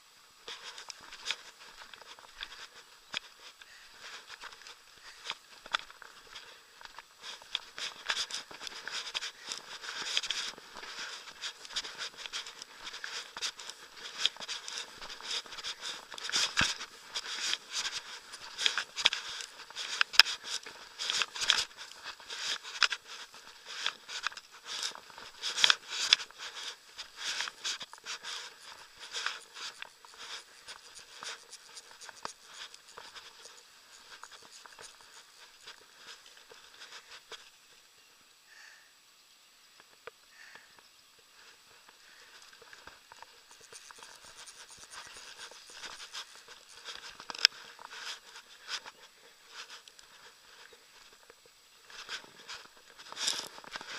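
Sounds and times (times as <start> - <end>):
grass rustling against camera: 0.0 - 38.0, 39.8 - 53.9.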